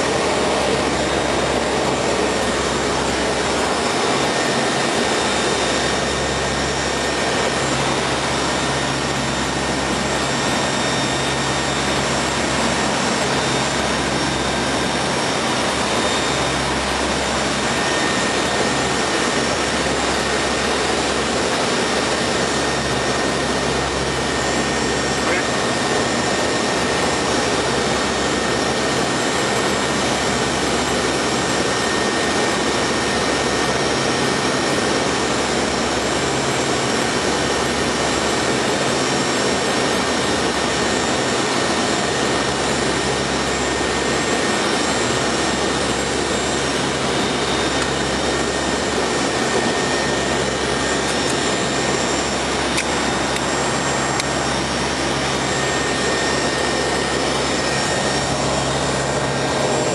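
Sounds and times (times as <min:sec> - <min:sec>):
thin steady whine: 0:00.0 - 0:59.9
turboprop engines droning: 0:00.0 - 0:59.9.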